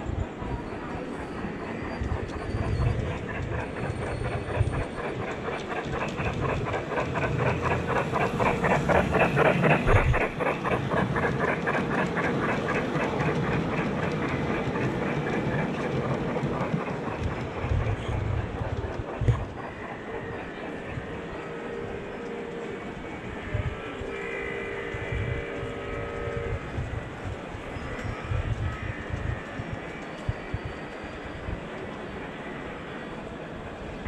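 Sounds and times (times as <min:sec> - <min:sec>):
model train wheels clicking: 0:00.7 - 0:34.0.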